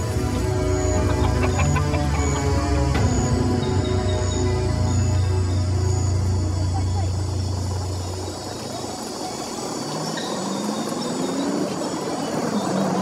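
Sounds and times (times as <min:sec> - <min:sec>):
low music drone: 0:00.0 - 0:13.0
street noise: 0:00.0 - 0:13.0.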